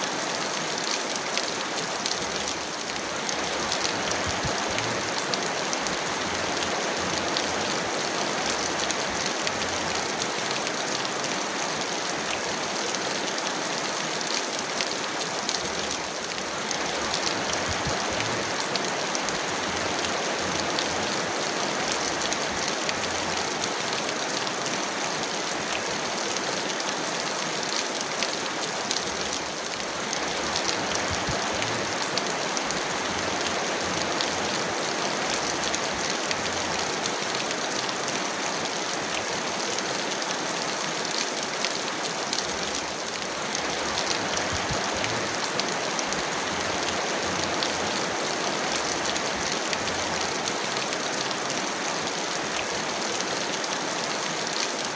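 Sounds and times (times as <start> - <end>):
heavy rain falling: 0.0 - 54.9
raindrops ticking sharply: 0.8 - 52.9.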